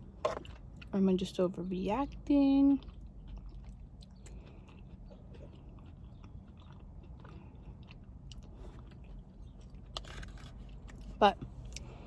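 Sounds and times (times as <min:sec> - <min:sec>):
person chewing food: 0:02.1 - 0:12.0.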